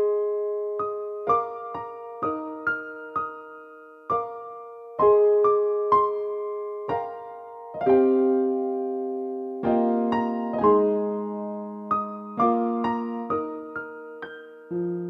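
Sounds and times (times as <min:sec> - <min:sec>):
gentle electric piano music: 0:00.0 - 0:15.0.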